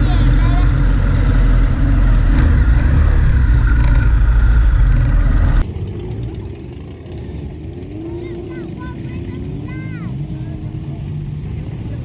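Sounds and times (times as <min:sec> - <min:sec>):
distant engine hum: 0:00.0 - 0:12.0
motorcycle engines rumbling: 0:00.0 - 0:12.0.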